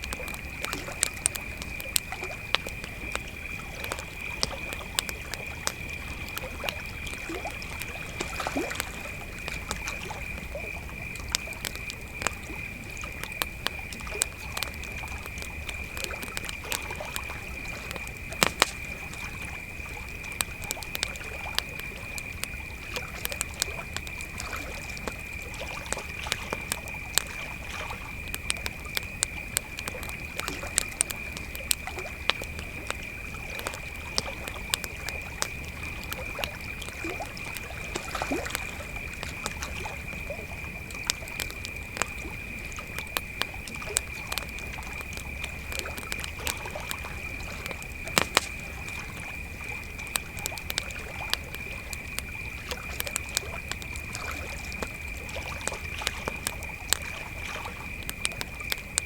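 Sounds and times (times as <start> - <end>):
sharp fire pops: 0.0 - 24.4, 27.9 - 57.0
campfire crackling: 0.0 - 59.0
crickets trilling: 0.0 - 59.0.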